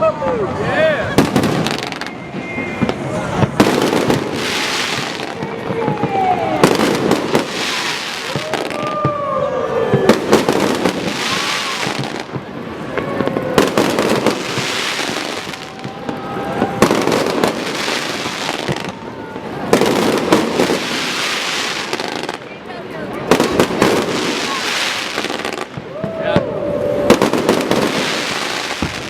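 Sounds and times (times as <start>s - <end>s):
fireworks bangs: 0.9s - 29.0s
falling whistling fireworks: 1.0s - 29.0s.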